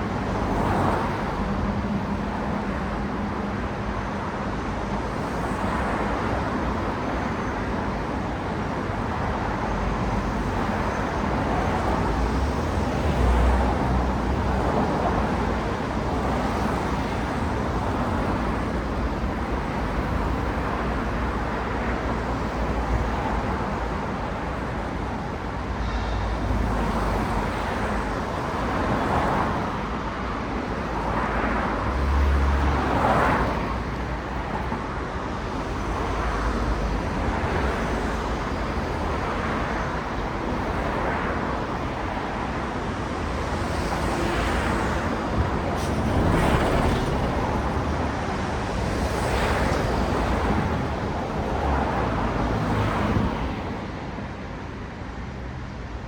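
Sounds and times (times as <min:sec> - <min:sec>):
cars passing: 0:00.0 - 0:56.0.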